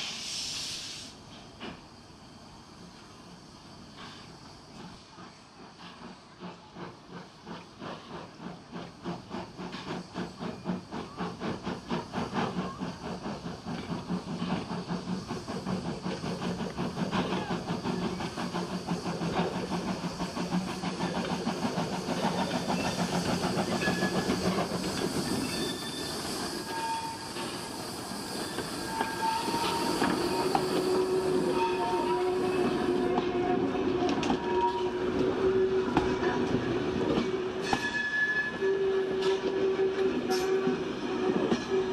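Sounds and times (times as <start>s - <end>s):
steam hissing: 0.0s - 41.9s
steam locomotive exhaust chuffing: 0.0s - 41.9s
train wheels clicking over rail joints: 3.9s - 41.9s.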